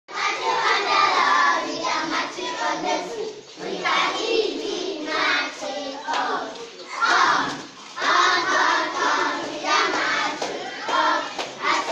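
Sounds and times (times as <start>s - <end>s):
children singing together: 0.1s - 11.9s.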